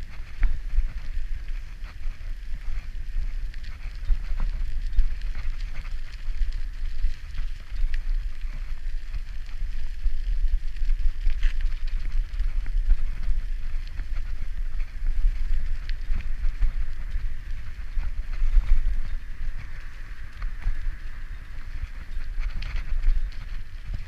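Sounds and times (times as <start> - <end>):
bicycle tyre noise: 0.0 - 24.0
bike clicks and rattles: 0.0 - 24.0
wind buffeting microphone: 0.0 - 24.0.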